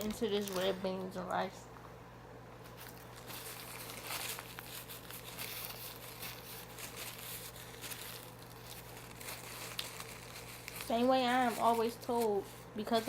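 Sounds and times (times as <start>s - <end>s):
food packaging crinkling: 0.0s - 0.9s, 2.6s - 13.0s.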